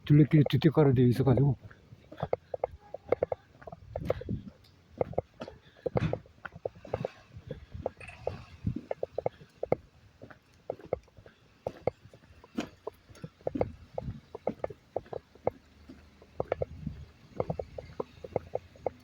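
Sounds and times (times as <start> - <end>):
footsteps: 0.0 - 19.0.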